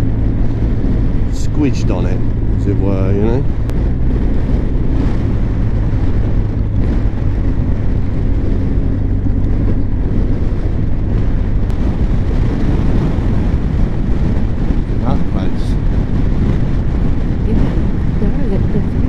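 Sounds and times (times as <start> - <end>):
motorcycle engine running: 0.0 - 19.0
wind noise on microphone: 0.0 - 19.0.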